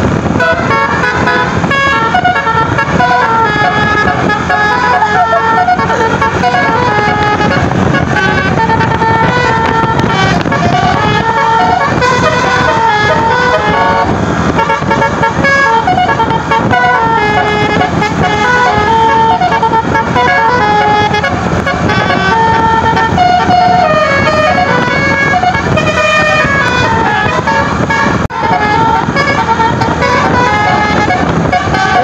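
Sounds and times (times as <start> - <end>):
musical air horn melody: 0.0 - 32.0.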